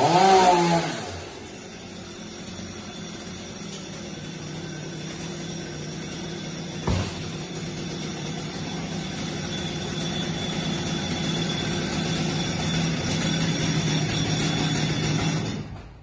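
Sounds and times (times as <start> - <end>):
chainsaw running: 0.0 - 15.8.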